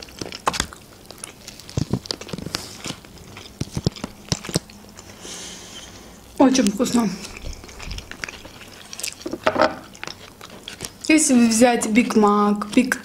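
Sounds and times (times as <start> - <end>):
people chewing crunchy food: 0.0 - 13.0.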